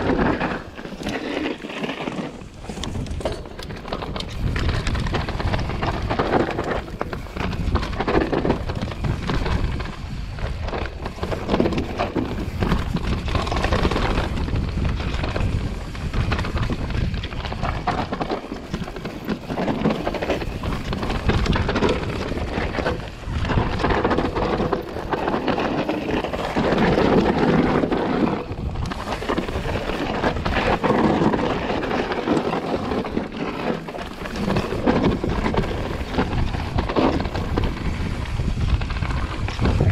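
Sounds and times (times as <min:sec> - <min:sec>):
bike knocking and rattling: 0:00.0 - 0:39.9
tyres rumbling over dirt and stones: 0:00.0 - 0:39.9
wind buffeting microphone: 0:02.3 - 0:39.9.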